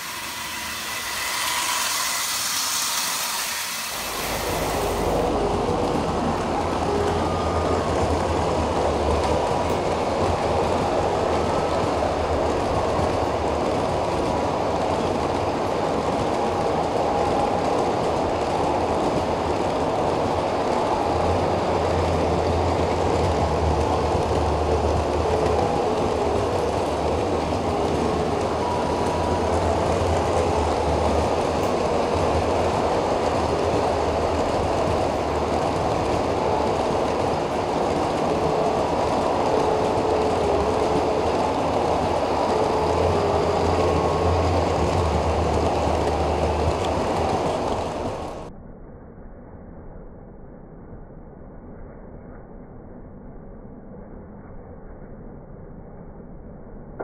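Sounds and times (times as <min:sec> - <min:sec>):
model train wheels rolling on rails: 0:00.0 - 0:48.5.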